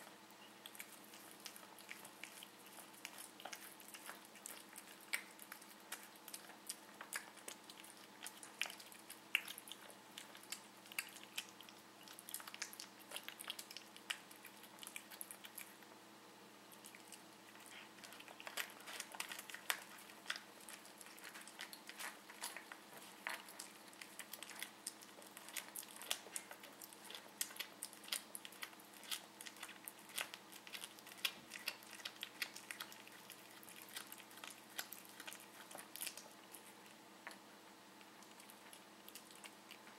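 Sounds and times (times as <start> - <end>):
cat chewing and crunching: 0.0 - 39.9.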